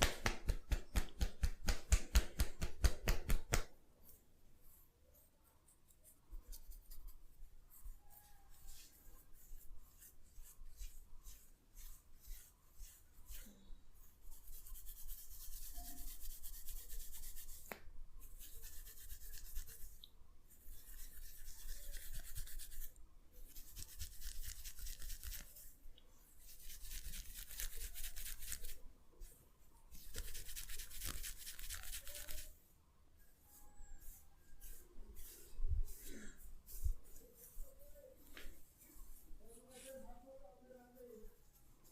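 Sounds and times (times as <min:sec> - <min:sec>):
fingers rubbing through hair: 0:00.0 - 0:32.6, 0:33.2 - 0:41.9.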